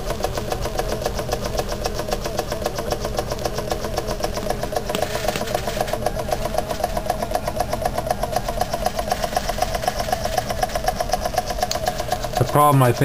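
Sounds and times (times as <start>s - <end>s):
model steam engine running: 0.0s - 13.0s.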